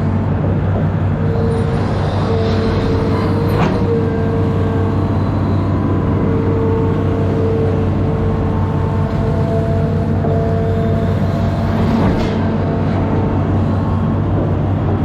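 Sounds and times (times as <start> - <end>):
diesel engine running: 0.0 - 15.0
steady whine: 0.0 - 15.0.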